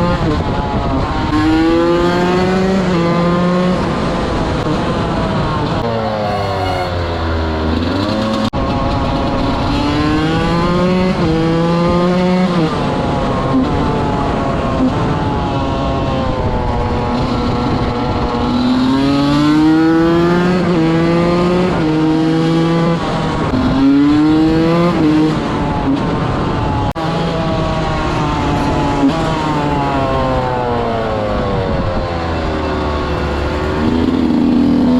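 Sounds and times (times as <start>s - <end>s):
two-stroke motorcycle revving: 0.0s - 15.4s, 16.0s - 34.9s.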